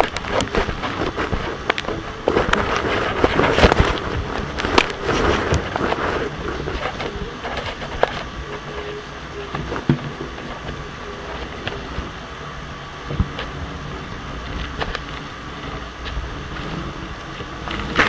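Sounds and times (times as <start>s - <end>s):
hollow rumble in chimney: 0.0s - 18.0s.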